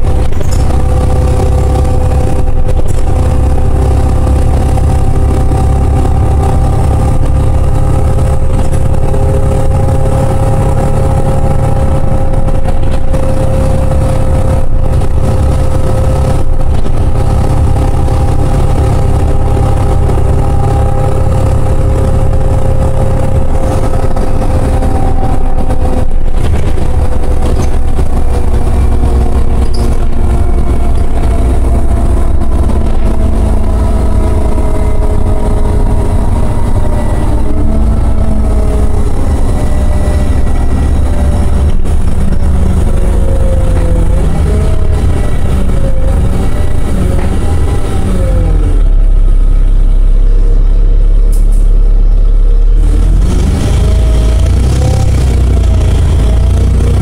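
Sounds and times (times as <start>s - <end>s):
bus engine low rumble: 0.0s - 57.0s
drivetrain whine: 0.0s - 57.0s.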